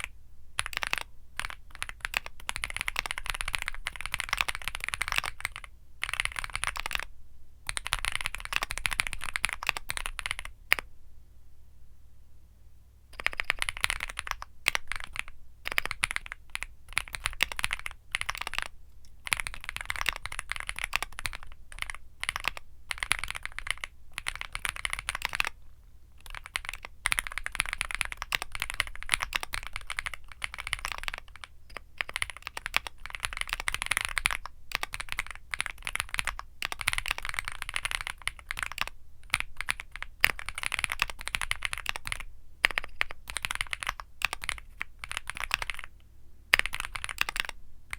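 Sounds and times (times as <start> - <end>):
mechanical keyboard typing: 0.0 - 7.1, 7.7 - 10.9, 13.2 - 25.6, 26.2 - 47.9.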